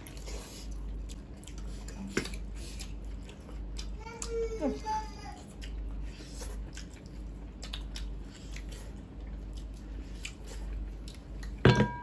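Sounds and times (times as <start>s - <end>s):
wet chewing and mouth smacks: 0.0s - 4.4s, 5.4s - 11.6s.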